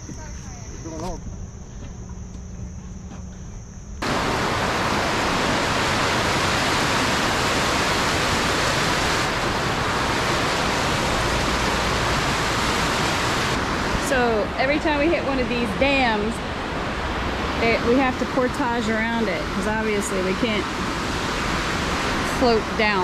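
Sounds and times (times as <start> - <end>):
insects chirring: 0.0 - 23.0
water rushing over dam: 4.0 - 23.0.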